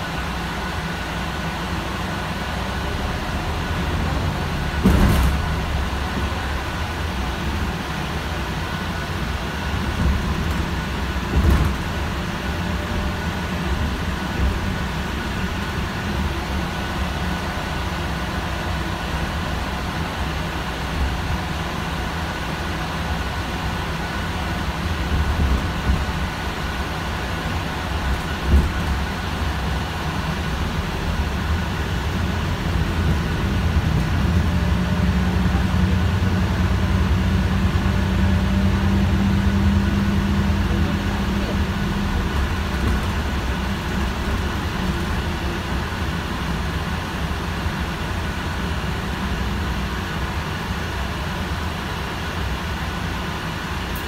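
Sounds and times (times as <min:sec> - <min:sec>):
bus drivetrain and road rumble: 0:00.0 - 0:54.0.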